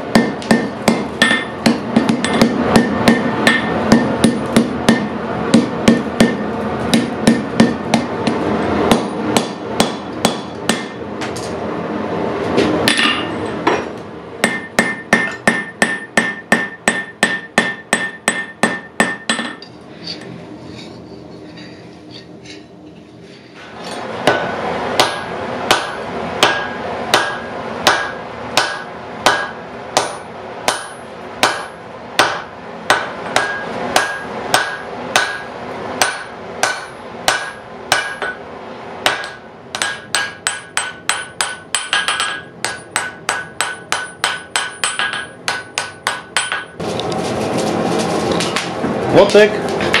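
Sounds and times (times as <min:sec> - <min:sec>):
hammer striking steel on anvil: 0:00.0 - 0:11.6, 0:12.8 - 0:20.2, 0:23.8 - 0:46.8.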